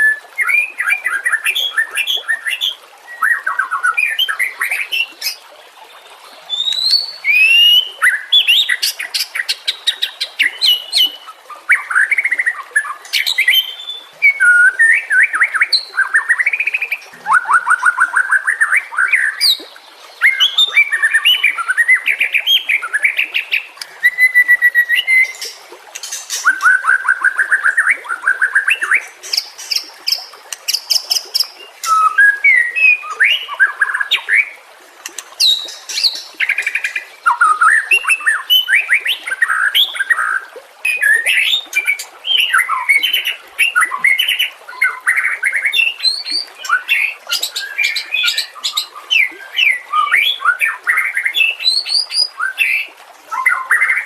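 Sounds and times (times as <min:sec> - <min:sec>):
bird singing trills and whistles: 0:00.0 - 0:05.4, 0:06.5 - 0:54.0.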